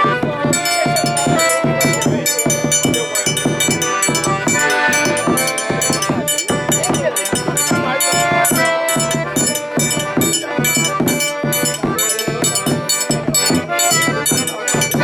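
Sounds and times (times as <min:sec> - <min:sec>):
held melody notes: 0:00.0 - 0:15.0
steady percussion beat: 0:00.0 - 0:15.0.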